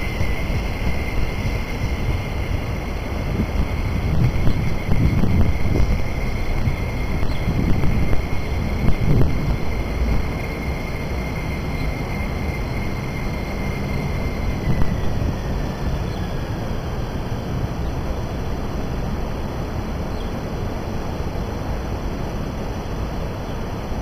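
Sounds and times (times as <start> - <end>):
high whine gliding down: 0.0 - 19.7
train rumble: 0.0 - 24.0.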